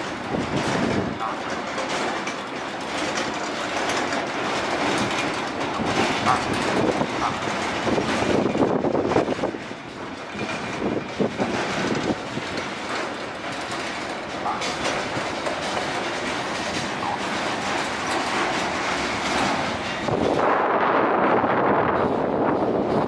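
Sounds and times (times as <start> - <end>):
freight train rolling rumble: 0.0 - 23.0
wheels clacking over rail joints: 0.0 - 23.0.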